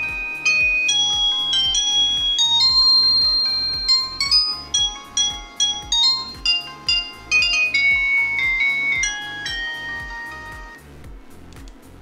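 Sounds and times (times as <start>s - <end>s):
phone ringtone melody: 0.0s - 10.8s.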